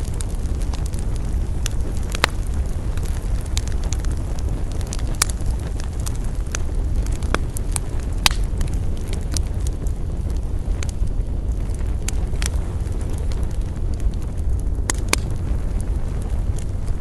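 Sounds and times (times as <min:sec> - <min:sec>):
campfire crackling: 0:00.0 - 0:17.0
steady low rumble: 0:00.0 - 0:17.0.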